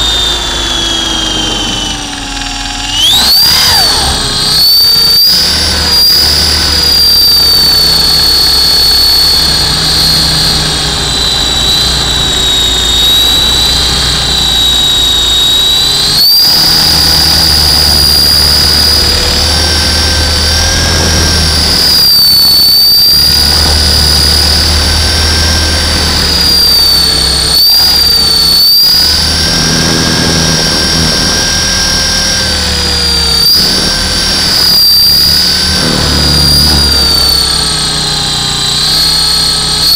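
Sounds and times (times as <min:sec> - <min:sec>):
pulsing rotor rumble: 0:00.0 - 0:39.9
rc helicopter motor whine: 0:00.0 - 0:39.9.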